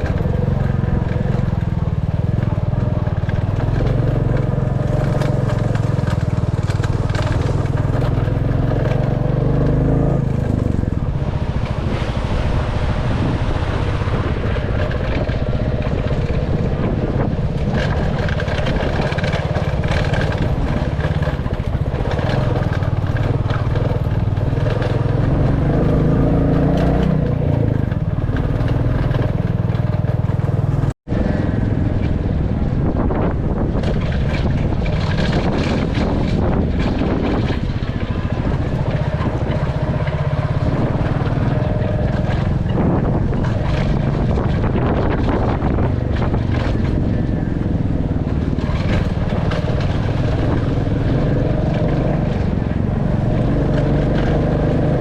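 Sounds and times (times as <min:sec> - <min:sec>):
motorcycle engine running: 0:00.0 - 0:55.0
road or wind noise: 0:00.0 - 0:55.0.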